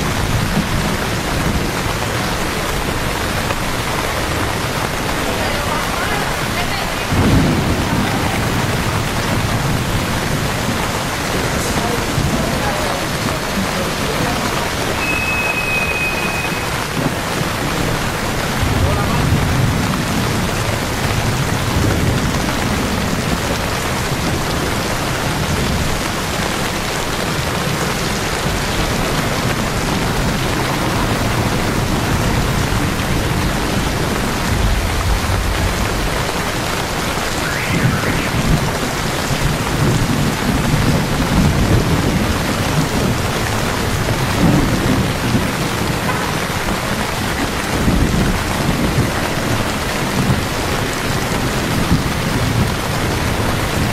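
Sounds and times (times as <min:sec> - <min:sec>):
rain splashing on a street: 0:00.0 - 0:53.9.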